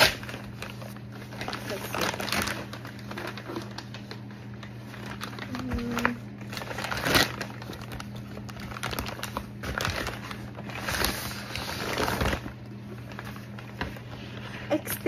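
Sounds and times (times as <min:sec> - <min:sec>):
packaging crinkling: 0:00.0 - 0:14.6.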